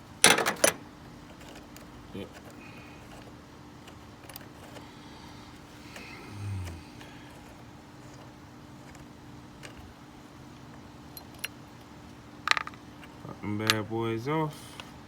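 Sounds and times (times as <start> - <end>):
outdoor background rumble: 0.0 - 14.0
faint constant hum: 0.0 - 15.0.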